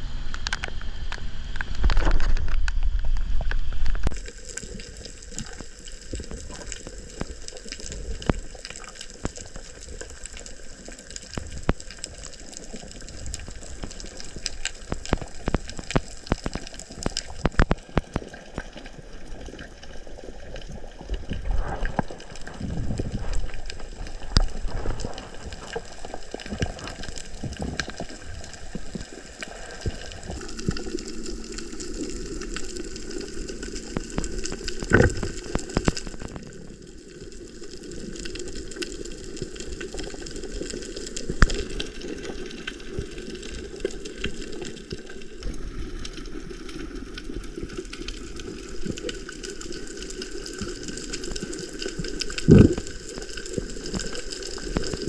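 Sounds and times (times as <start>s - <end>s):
rushing bubbling water: 0.0s - 55.0s.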